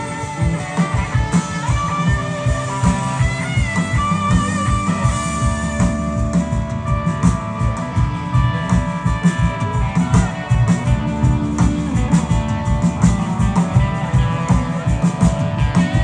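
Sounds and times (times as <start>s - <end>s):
bass guitar: 0.0s - 16.0s
electric guitar: 0.0s - 16.0s
steady drum beat: 0.0s - 16.0s.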